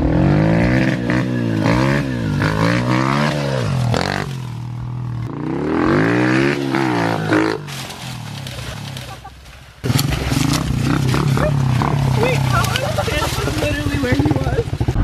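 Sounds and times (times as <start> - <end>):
small motorcycle engine revving: 0.0 - 9.1, 9.8 - 15.0.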